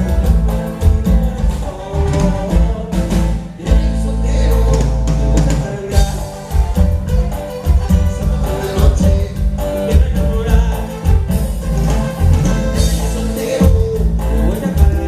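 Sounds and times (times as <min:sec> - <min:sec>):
latin band music: 0:00.0 - 0:15.0.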